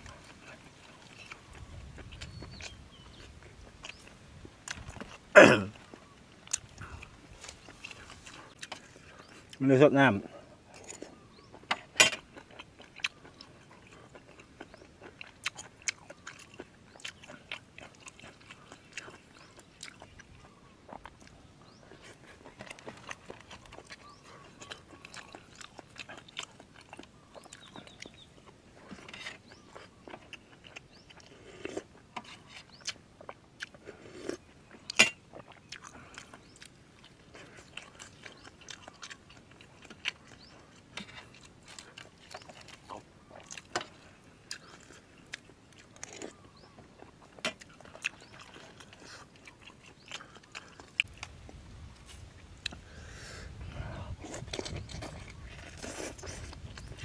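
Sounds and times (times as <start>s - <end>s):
person chewing and crunching: 0.0s - 9.6s, 10.2s - 53.0s, 53.6s - 57.0s.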